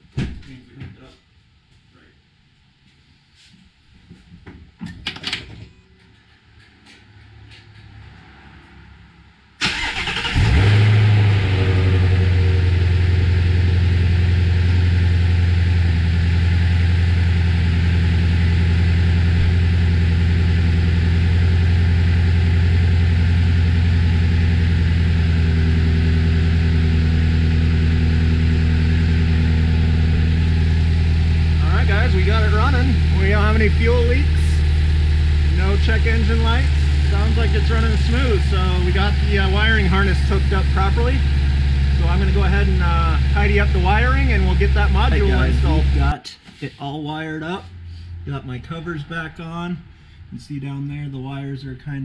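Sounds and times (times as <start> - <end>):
car engine starting and idling: 7.5 - 46.2, 47.2 - 51.7.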